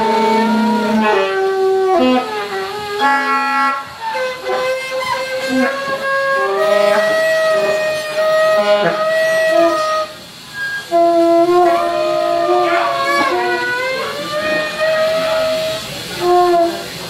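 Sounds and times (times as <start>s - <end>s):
saxophones holding long notes: 0.0s - 17.0s.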